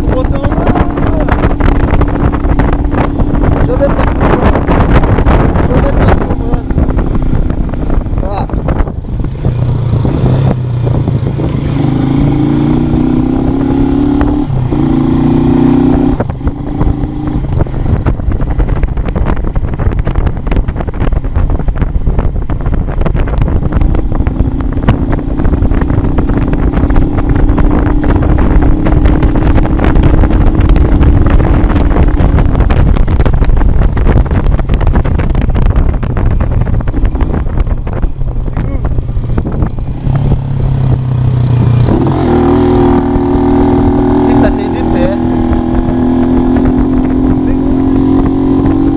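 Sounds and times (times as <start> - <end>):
motorcycle engine rumbling: 0.0 - 48.9.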